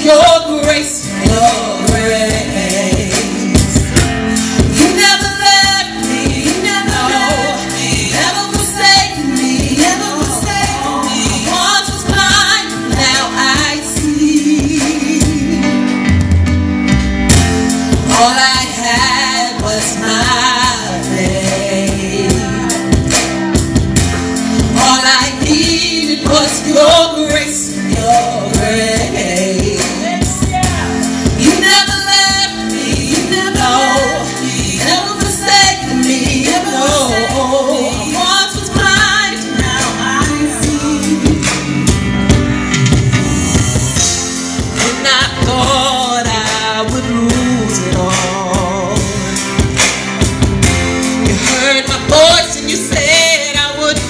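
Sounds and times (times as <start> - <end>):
woman singing gospel: 0.0 - 15.8, 17.9 - 23.7, 24.6 - 30.4, 31.2 - 41.9, 44.8 - 49.4, 51.2 - 54.0
music with steady beat: 0.0 - 54.0.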